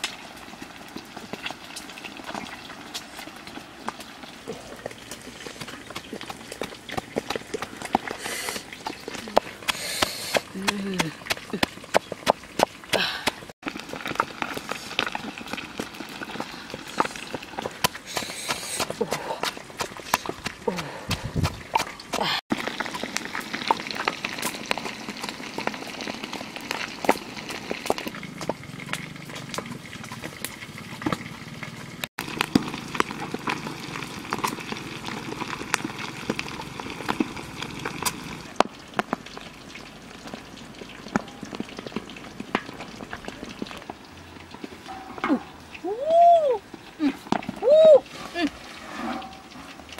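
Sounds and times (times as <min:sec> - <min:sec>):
food frying in oil: 0:00.0 - 0:49.9.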